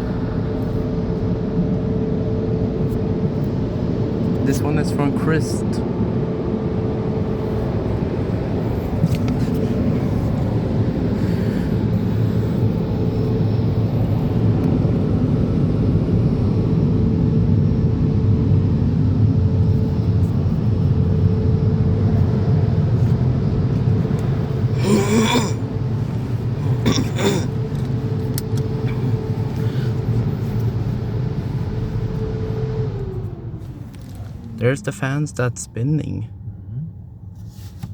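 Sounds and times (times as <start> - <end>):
dryer blowers rushing air: 0.0 - 35.5.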